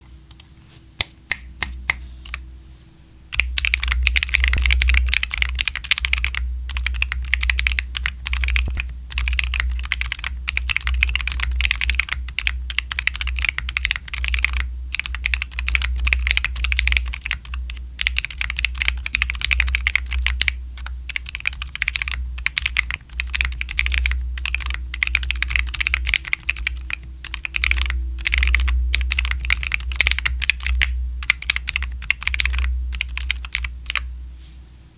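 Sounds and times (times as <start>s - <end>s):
typing on mechanical keyboard: 3.4s - 34.1s.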